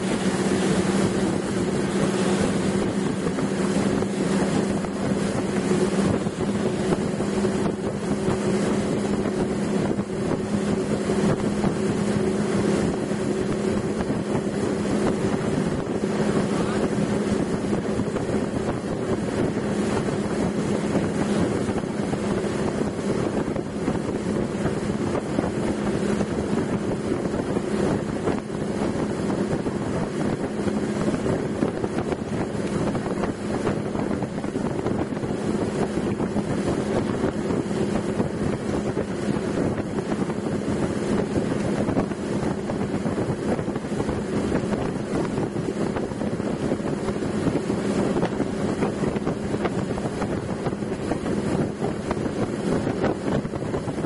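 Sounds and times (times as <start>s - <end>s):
motorboat engine droning: 0.0s - 54.0s
wind rushing over microphone: 0.0s - 54.0s.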